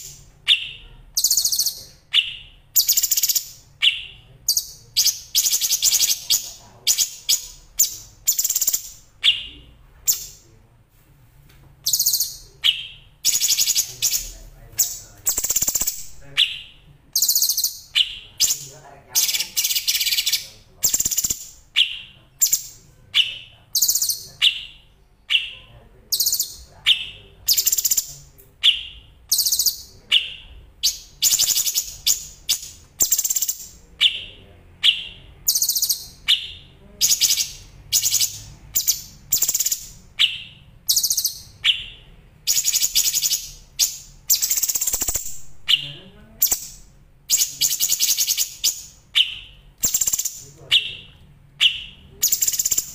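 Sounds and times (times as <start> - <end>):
songbird trilling: 0.0 - 10.4, 11.8 - 52.9.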